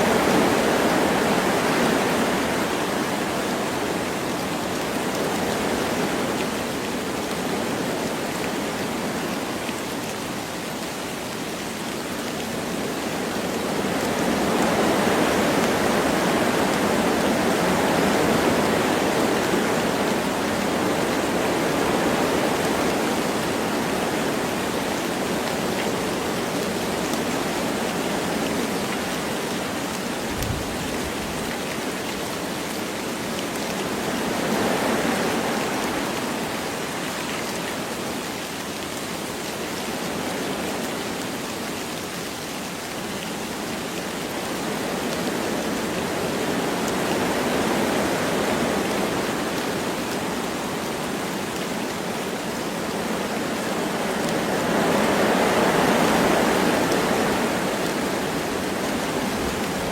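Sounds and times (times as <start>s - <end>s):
light rain: 0.0s - 59.9s
wind through trees: 0.0s - 59.9s.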